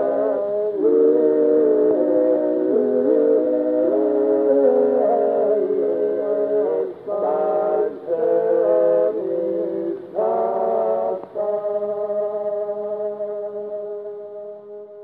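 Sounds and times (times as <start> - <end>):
men's choir singing a cappella: 0.0 - 14.2.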